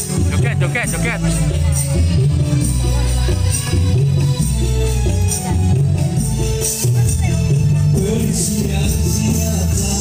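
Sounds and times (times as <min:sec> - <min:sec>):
music with heavy bass line: 0:00.0 - 0:10.0.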